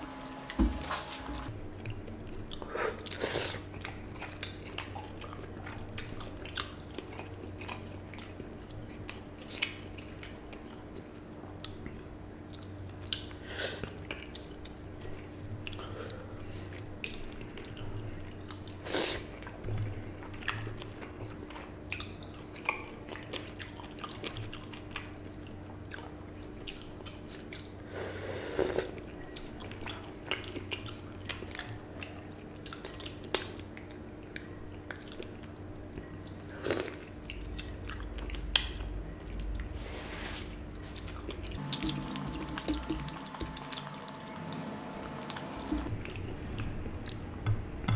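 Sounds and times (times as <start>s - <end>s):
steady low hum: 0.0s - 27.9s, 28.9s - 47.9s.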